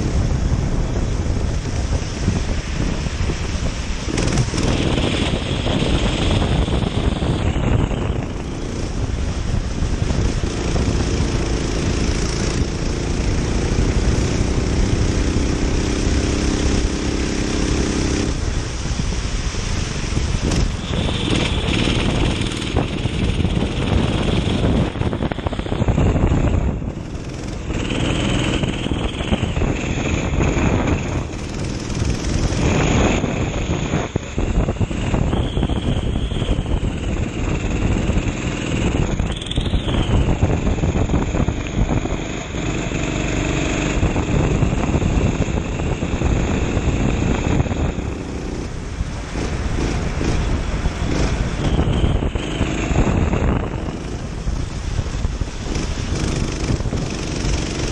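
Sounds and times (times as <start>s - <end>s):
wind noise on microphone: 0.0s - 57.9s
kart engine running: 4.0s - 9.3s, 10.0s - 18.4s, 19.9s - 35.6s, 36.8s - 57.9s.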